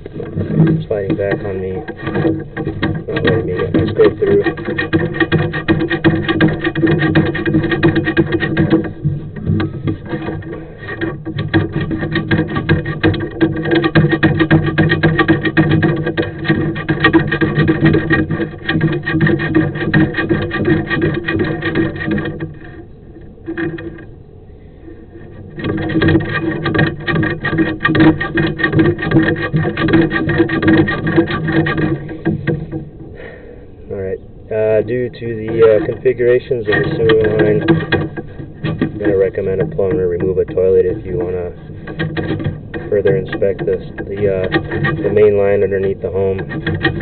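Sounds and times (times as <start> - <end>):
cable rattling in a metal pipe: 0.0 - 33.3, 33.9 - 47.0
steady hum: 0.0 - 47.0.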